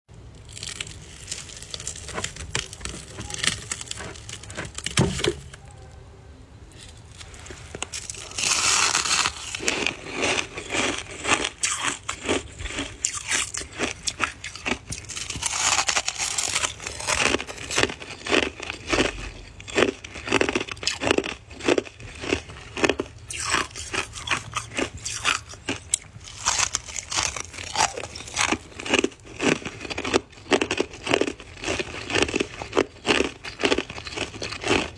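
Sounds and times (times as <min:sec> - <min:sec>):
chewing ice crunches: 0:00.2 - 0:05.7, 0:06.8 - 0:34.9.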